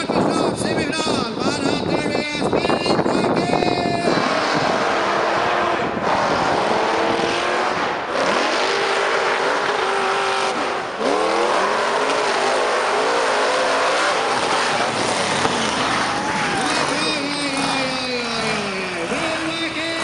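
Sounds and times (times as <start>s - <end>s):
monster truck engines revving: 1.6s - 20.0s.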